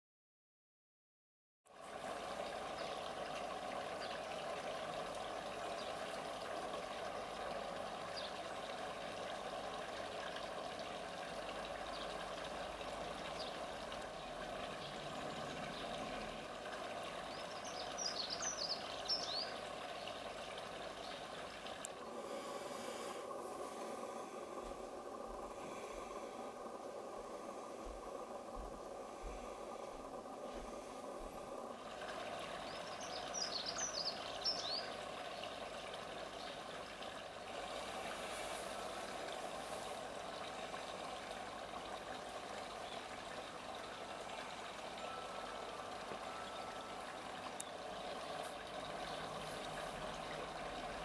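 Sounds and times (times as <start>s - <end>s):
outdoor background hiss: 1.7s - 51.0s.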